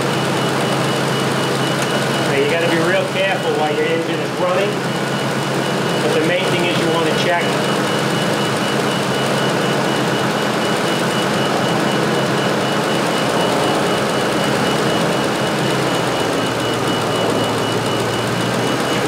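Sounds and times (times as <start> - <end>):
pickup engine running: 0.0 - 19.0
steady high-pitched tone: 0.0 - 19.0.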